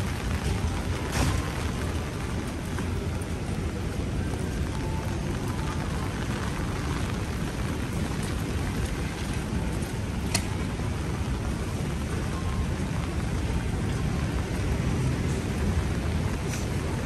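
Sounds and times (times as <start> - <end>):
heavy rain on pavement: 0.0 - 17.0.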